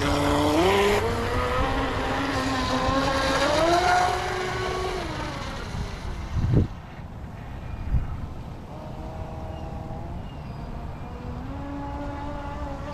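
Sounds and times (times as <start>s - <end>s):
electric boat motor whining: 0.0s - 7.6s, 8.2s - 12.9s.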